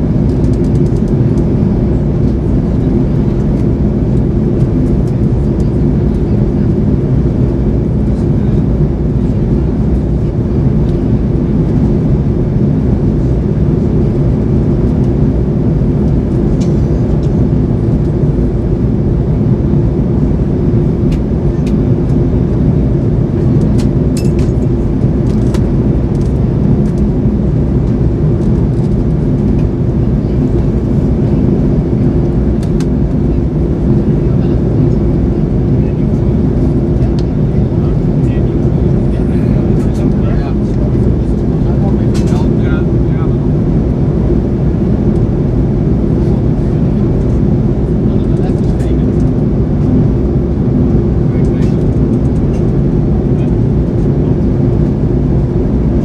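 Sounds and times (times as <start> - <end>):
jet engines droning: 0.0 - 56.0
low hum: 0.0 - 56.0.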